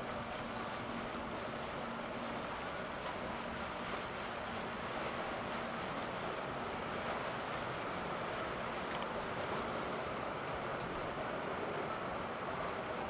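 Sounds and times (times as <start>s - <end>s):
boat engine droning: 0.0s - 13.0s
water wash: 0.0s - 13.0s.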